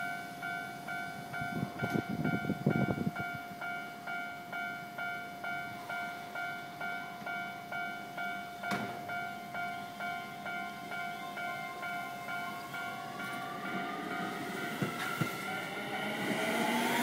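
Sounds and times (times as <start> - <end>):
level-crossing warning bell: 0.0 - 17.0.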